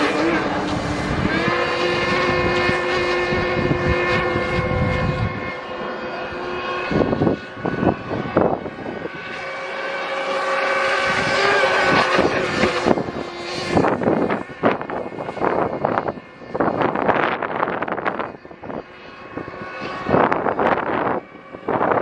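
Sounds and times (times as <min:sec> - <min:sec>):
model boat engine buzzing: 0:00.0 - 0:22.0.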